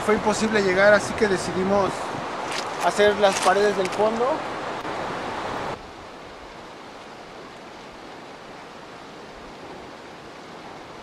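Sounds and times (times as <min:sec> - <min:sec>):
open air rushing noise: 0:00.0 - 0:11.0.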